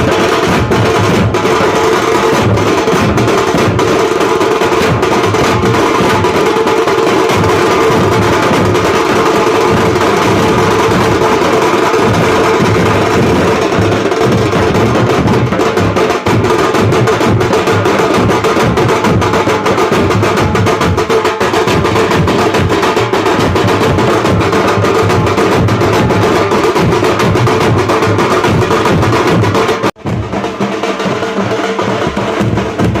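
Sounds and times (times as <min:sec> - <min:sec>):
fast drumming: 0:00.0 - 0:33.0.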